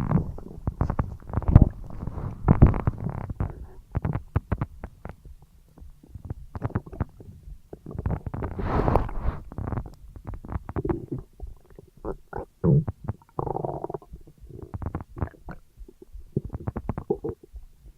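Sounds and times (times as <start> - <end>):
stomach gurgling and rumbling: 0.0 - 17.9.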